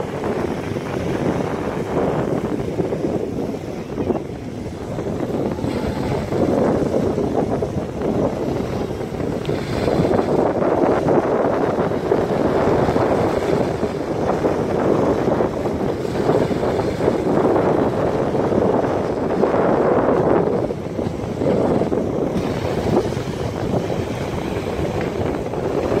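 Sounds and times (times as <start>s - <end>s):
sea water rushing: 0.0s - 26.0s
wind buffeting microphone: 0.0s - 26.0s.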